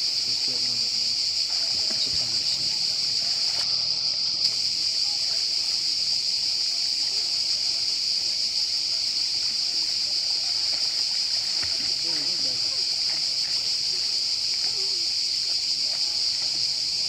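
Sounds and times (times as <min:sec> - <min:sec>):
cicadas chorus: 0:00.0 - 0:17.0
faint voices: 0:00.0 - 0:17.0.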